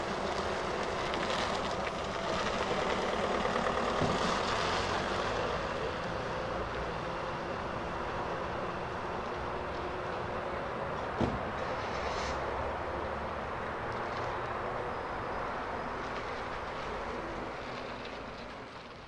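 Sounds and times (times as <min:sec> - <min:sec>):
locomotive engine hum: 0:00.0 - 0:19.0
wheel and rail noise: 0:00.0 - 0:19.0.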